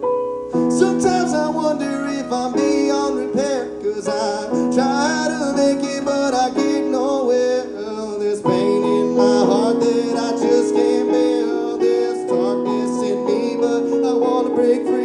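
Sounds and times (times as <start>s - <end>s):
sustained piano chords: 0.0s - 15.0s
man singing a slow ballad: 0.6s - 15.0s.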